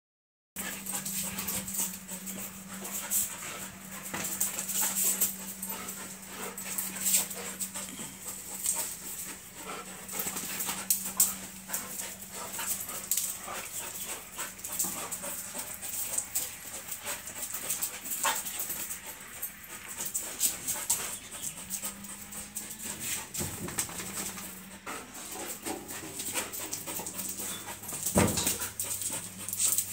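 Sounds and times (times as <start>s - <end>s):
dog panting and whining: 0.6s - 29.9s
steady low hum: 0.6s - 29.9s.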